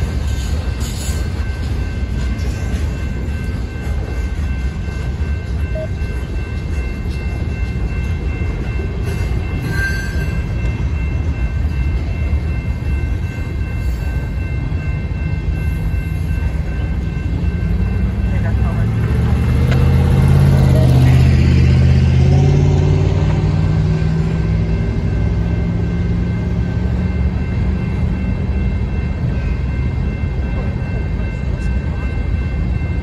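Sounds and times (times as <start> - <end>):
freight train rumbling on rails: 0.0 - 33.0.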